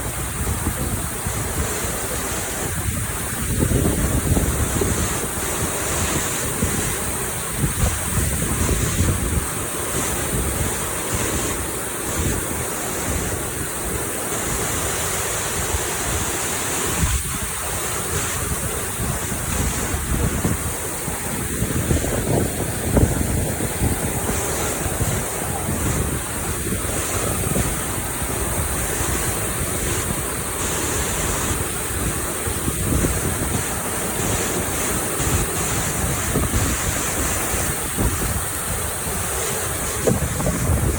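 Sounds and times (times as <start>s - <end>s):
waterfall crashing: 0.0s - 40.9s
wind buffeting microphone: 0.0s - 40.9s.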